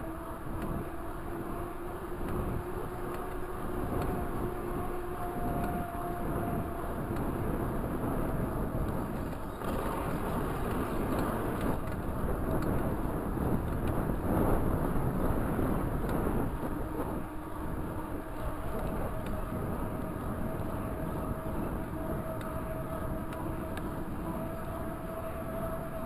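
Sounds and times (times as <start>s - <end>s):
bike tyres rolling on asphalt: 0.0s - 26.0s
faint hum: 0.0s - 26.0s
wind rushing over microphone: 0.0s - 26.0s.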